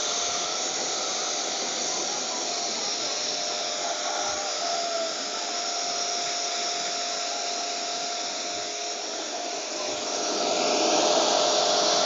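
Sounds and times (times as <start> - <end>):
pressure washer whine: 0.0 - 12.0.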